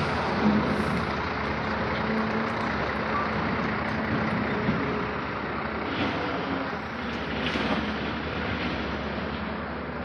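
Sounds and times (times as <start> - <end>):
diesel trucks running: 0.0 - 10.0
truck rolling past: 0.0 - 10.0.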